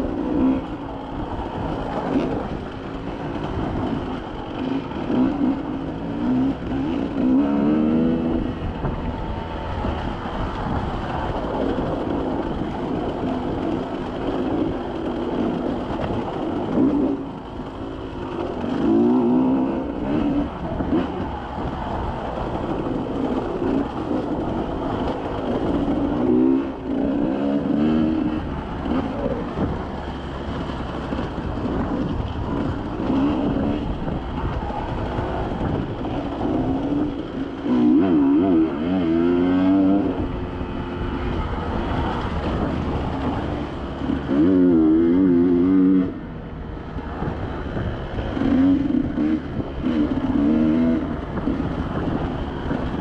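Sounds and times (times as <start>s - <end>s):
off-road vehicle engine revving: 3.2s - 10.8s, 14.4s - 46.3s, 46.9s - 53.0s.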